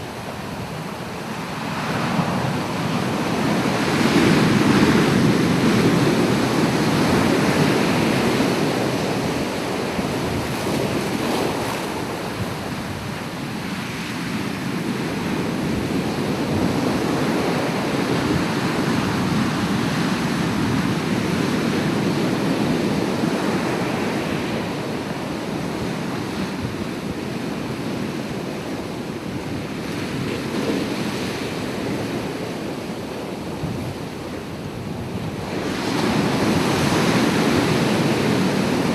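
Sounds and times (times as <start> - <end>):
ocean waves washing onto shore: 0.0 - 38.9
wind: 0.0 - 38.9.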